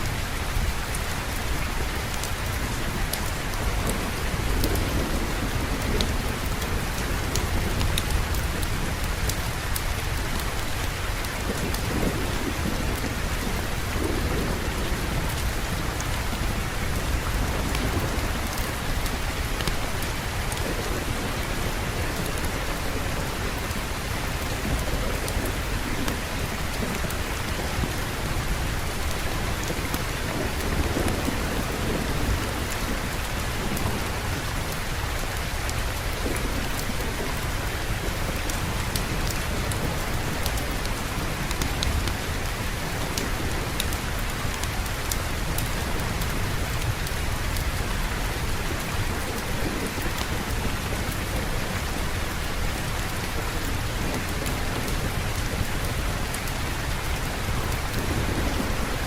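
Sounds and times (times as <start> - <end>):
steady rain falling: 0.0 - 59.0
low rumbling thunder: 2.9 - 59.0.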